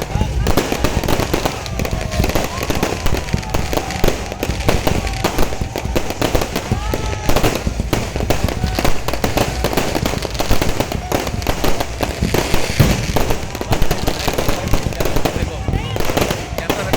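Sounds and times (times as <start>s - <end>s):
fireworks bangs and crackles: 0.0s - 16.9s
voices in background: 0.0s - 16.9s.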